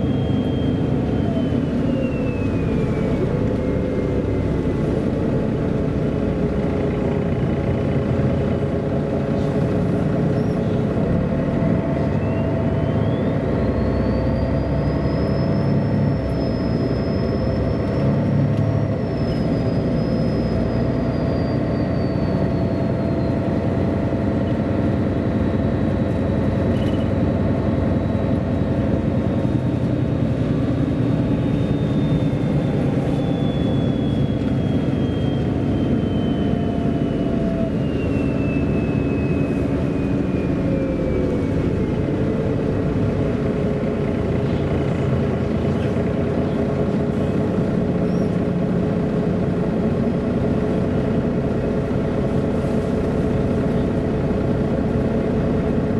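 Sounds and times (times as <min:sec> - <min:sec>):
bus drivetrain rumble: 0:00.0 - 0:55.9.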